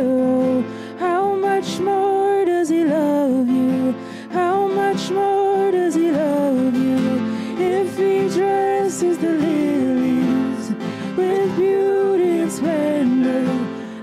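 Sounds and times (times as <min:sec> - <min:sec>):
acoustic guitar: 0:00.0 - 0:14.0
woman singing: 0:00.0 - 0:14.0.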